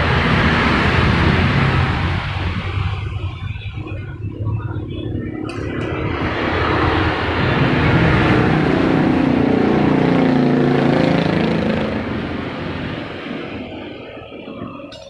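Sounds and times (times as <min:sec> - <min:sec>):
vehicle engine passing by: 0:00.0 - 0:14.8.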